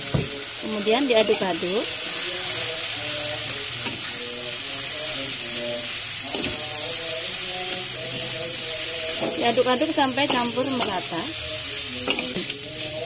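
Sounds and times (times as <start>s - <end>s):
stir-fry sizzling in a wok: 0.0s - 13.0s.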